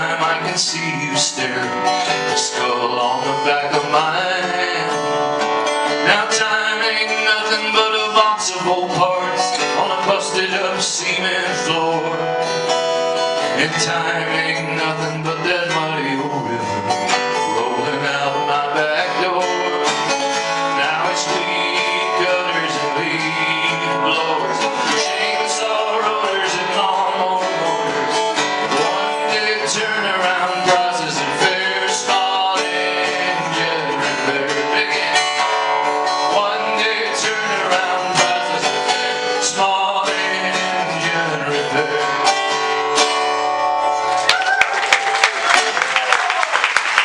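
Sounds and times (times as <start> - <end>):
acoustic guitar strumming: 0.0 - 44.3.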